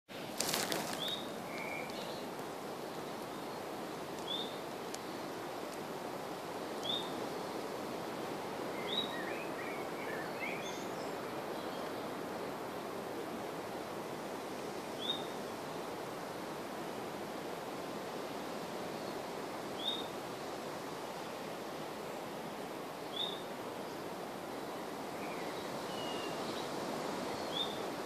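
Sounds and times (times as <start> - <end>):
steady background hiss: 0.1 - 28.0.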